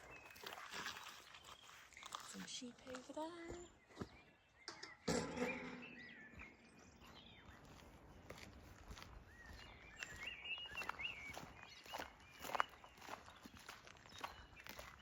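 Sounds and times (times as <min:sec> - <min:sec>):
footsteps on a path: 0:00.0 - 0:15.0
small birds chirping: 0:00.0 - 0:15.0.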